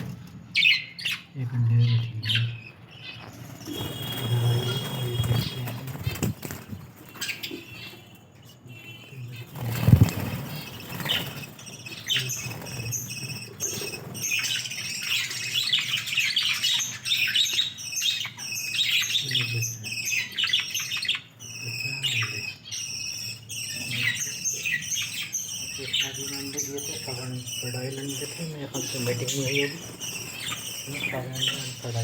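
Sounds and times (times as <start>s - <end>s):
budgerigars chirping: 0.0s - 32.0s.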